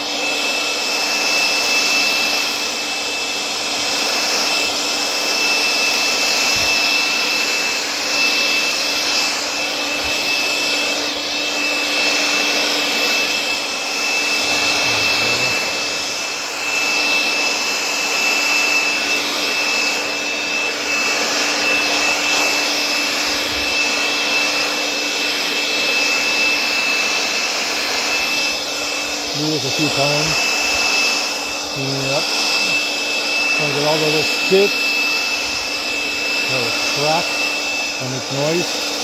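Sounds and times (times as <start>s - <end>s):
leaf blower running: 0.0s - 39.0s.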